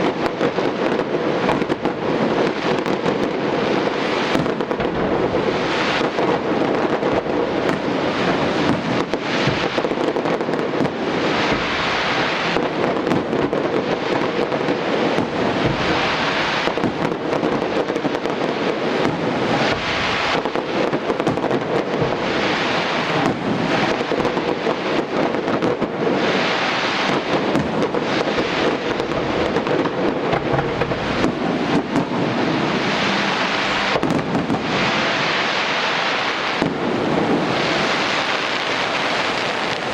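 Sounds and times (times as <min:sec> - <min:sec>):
fireworks bangs and crackling: 0:00.0 - 0:39.9
high hissing crackle: 0:00.0 - 0:39.9.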